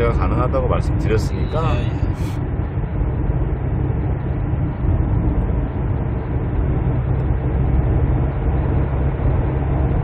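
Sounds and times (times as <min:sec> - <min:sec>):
in-cabin road and engine noise: 0:00.0 - 0:10.0.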